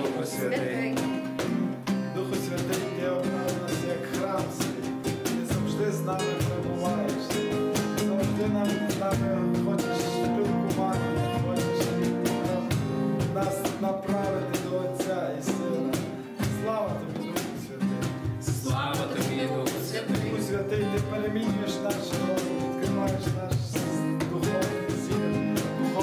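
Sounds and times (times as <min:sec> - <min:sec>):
background music with plucked beat: 0:00.0 - 0:26.0.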